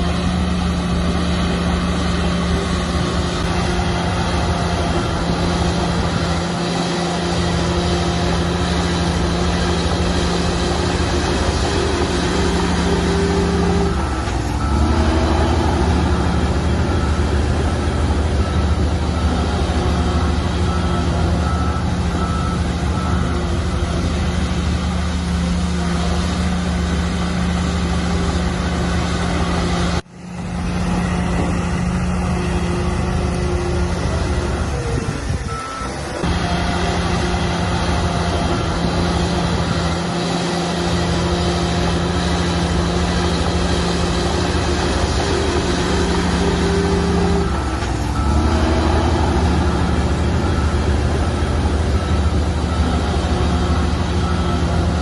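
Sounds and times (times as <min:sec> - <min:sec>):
heavy diesel machinery running: 0:00.0 - 0:55.0
reversing alarm beeping: 0:00.6 - 0:30.0, 0:31.0 - 0:55.0.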